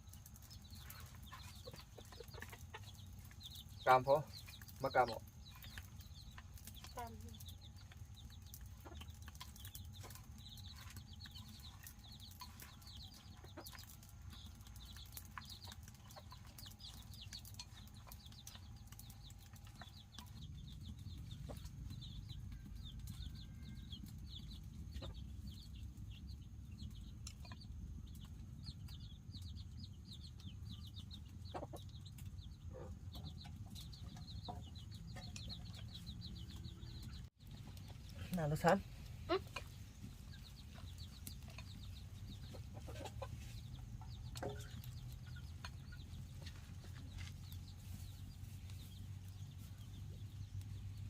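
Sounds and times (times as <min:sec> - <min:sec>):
chickens peeping: 0:00.0 - 0:51.0.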